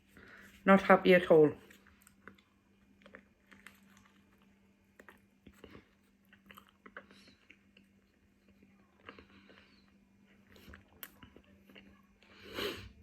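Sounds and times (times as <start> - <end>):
chewing food: 1.6 - 12.8.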